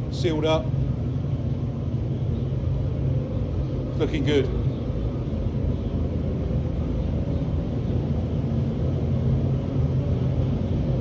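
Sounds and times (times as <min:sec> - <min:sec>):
faint mechanical hum: 0:00.0 - 0:11.0.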